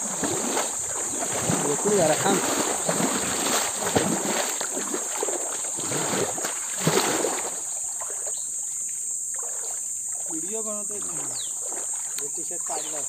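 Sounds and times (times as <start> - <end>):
high insect drone: 0.0 - 13.0
wading through muddy water: 0.0 - 13.0.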